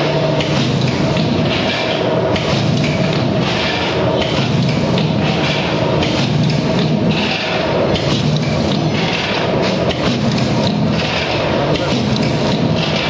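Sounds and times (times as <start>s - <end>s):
machine clatter: 0.0s - 13.0s
packing machine humming: 0.0s - 13.0s.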